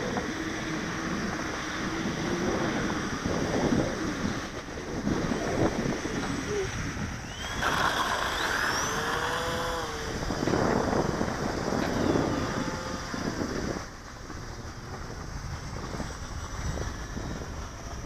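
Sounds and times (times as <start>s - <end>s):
electric motors and propellers whining: 0.0s - 18.0s
wind on microphone: 0.0s - 18.0s.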